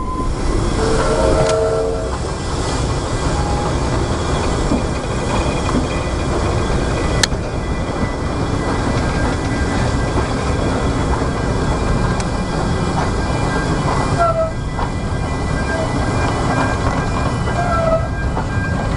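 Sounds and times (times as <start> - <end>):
train carriage rumble and hiss: 0.0 - 18.9.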